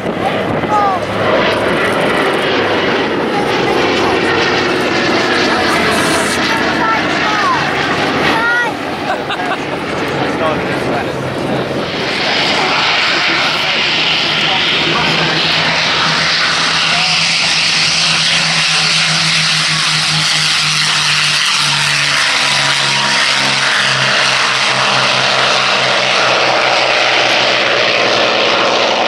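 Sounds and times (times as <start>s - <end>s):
propeller aircraft engine drone: 0.0s - 29.0s.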